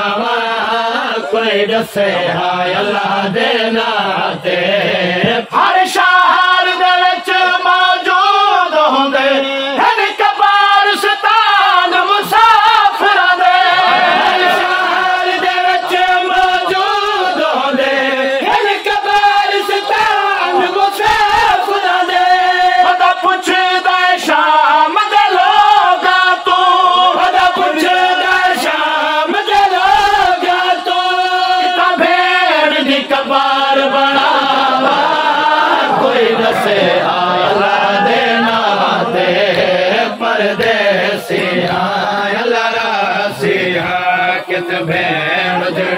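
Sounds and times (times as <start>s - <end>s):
men chanting a lament: 0.0s - 45.9s.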